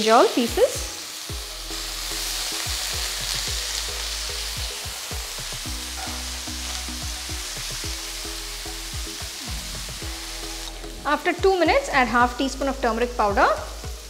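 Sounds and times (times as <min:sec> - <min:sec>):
soft background music: 0:00.0 - 0:14.0
vegetables sizzling in oil: 0:00.0 - 0:14.0.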